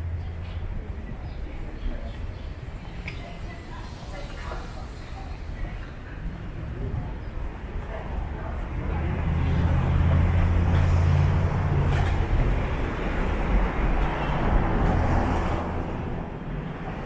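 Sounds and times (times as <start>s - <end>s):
rushing road noise: 0.0s - 17.0s
vehicle engine hum: 0.0s - 17.0s.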